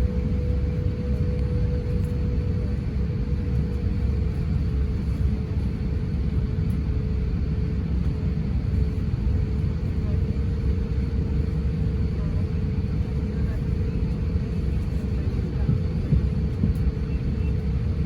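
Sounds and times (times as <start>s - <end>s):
airliner cabin rumble: 0.0s - 18.0s
droning hum: 0.0s - 18.0s.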